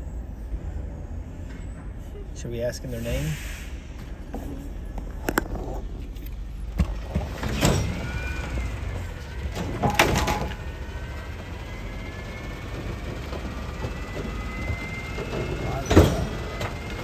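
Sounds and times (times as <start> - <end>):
garbage truck running: 0.0 - 17.0.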